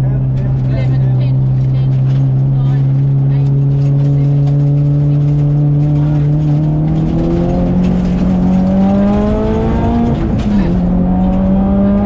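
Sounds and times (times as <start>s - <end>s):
car engine revving: 0.0s - 12.0s
tyres on wet road: 0.0s - 12.0s.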